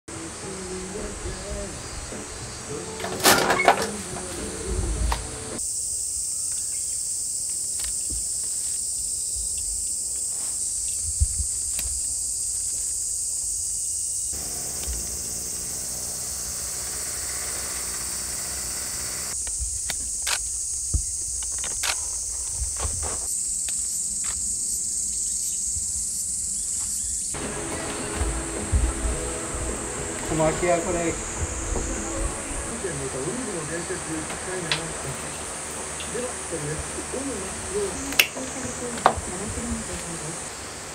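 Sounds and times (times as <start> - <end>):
insects chorus: 0.1 - 40.9.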